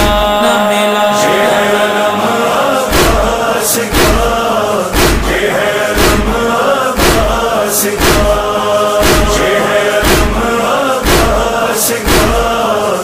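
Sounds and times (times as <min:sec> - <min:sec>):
men singing in chorus: 0:00.0 - 0:13.0
deep beat: 0:01.9 - 0:13.0.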